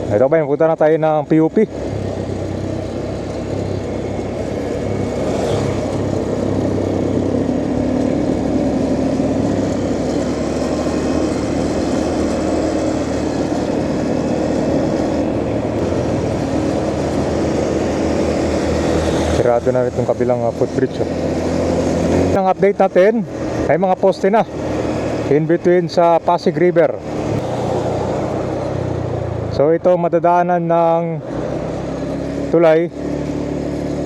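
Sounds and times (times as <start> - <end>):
road noise: 0.0 - 34.0
vehicle engine: 0.0 - 34.0.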